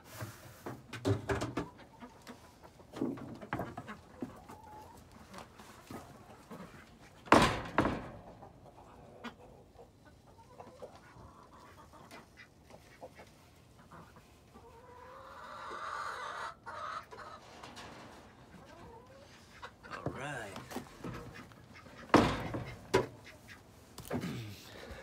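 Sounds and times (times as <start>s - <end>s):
hens clucking: 0.0s - 25.0s.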